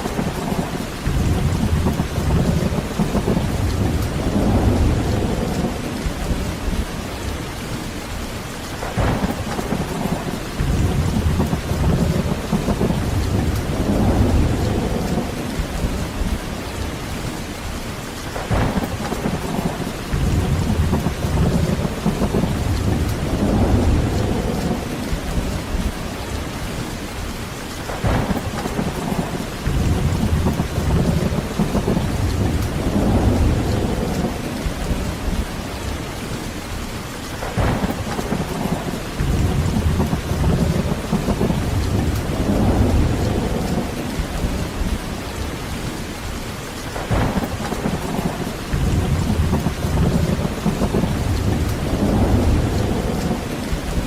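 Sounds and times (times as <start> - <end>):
rolling thunder: 0.0 - 7.4, 8.8 - 17.4, 18.3 - 36.8, 37.4 - 54.0
heavy rain: 0.0 - 54.0.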